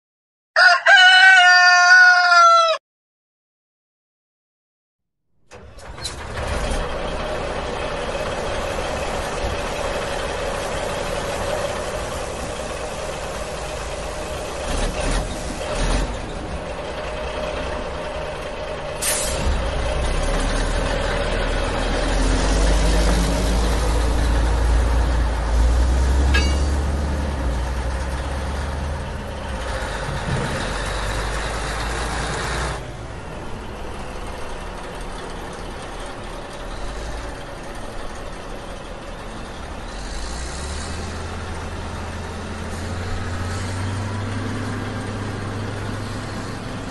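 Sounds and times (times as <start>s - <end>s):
heavy truck engine rumbling: 5.4s - 46.9s.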